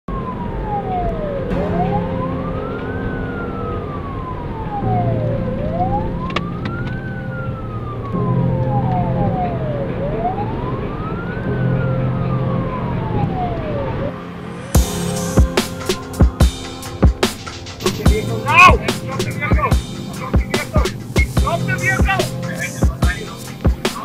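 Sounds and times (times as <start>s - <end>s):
car engine and road noise: 0.1s - 24.0s
police siren wailing: 0.1s - 24.0s.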